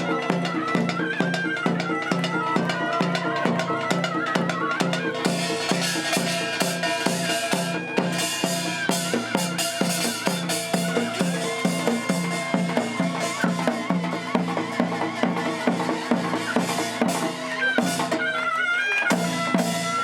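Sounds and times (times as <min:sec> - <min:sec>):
steady drum beat: 0:00.0 - 0:18.2.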